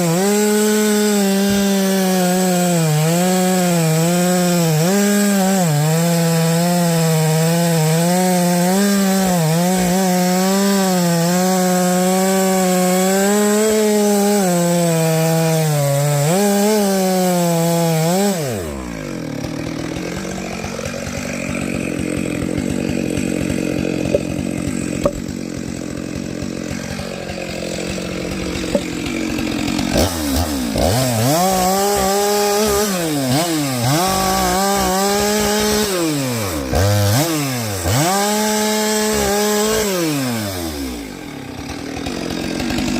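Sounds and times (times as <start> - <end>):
chainsaw cutting logs: 0.0 - 42.9.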